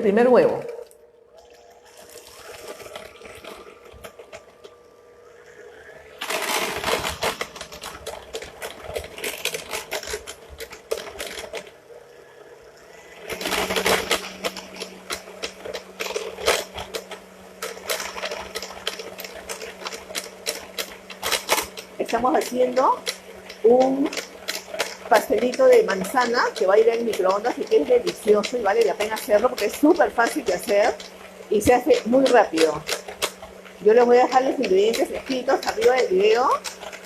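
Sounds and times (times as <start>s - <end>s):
mixer motor hum: 0.0s - 37.0s
mixer beaters rattling in bowl: 1.9s - 4.8s, 6.1s - 11.8s, 13.2s - 37.0s.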